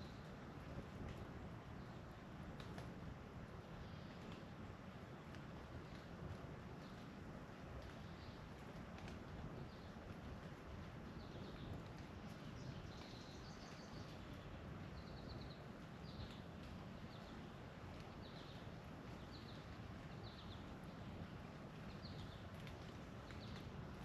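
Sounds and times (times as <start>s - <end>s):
low background rumble and hiss: 0.0s - 24.0s.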